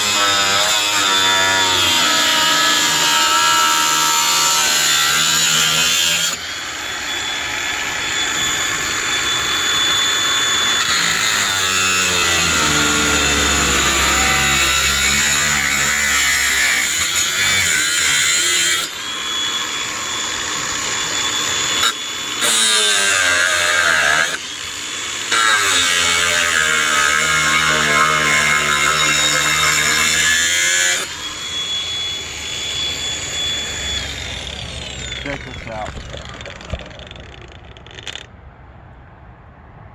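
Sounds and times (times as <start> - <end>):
angle grinder cutting metal: 0.0 - 38.3
grinder whining freely: 0.0 - 38.3.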